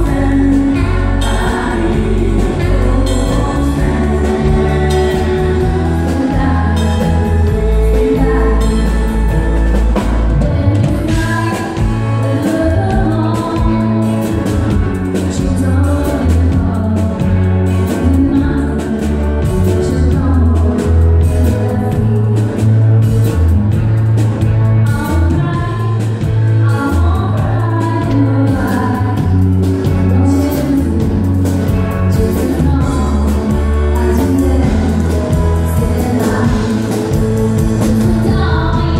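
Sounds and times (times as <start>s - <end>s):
drum kit: 0.0s - 38.9s
electric guitar: 0.0s - 38.9s
woman singing lead: 0.0s - 38.9s.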